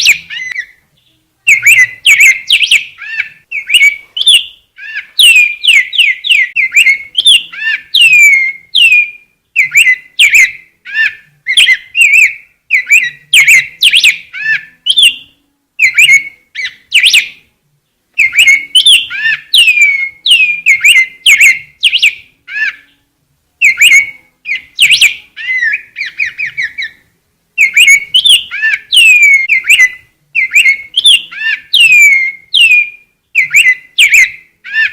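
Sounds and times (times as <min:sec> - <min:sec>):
bird singing whistled notes: 0:00.0 - 0:34.9.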